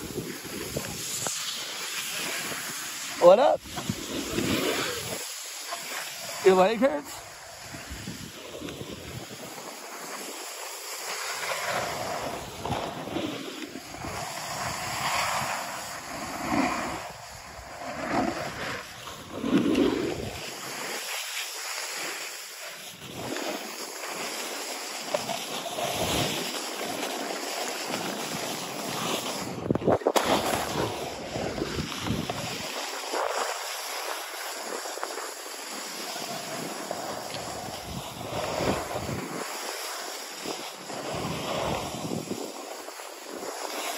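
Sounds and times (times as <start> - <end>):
wind on microphone: 0.0 - 5.2, 6.2 - 10.5, 11.6 - 20.9, 25.1 - 26.5, 27.9 - 43.9
ski edges scraping snow: 0.0 - 43.9.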